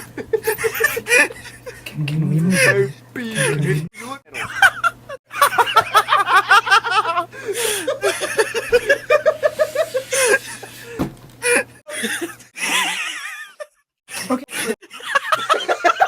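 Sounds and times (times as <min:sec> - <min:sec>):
person laughing hard: 0:00.0 - 0:13.6.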